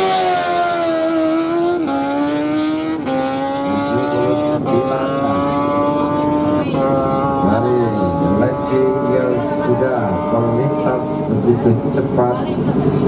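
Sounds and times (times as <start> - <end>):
motorcycle accelerating through gears: 0.0 - 13.0.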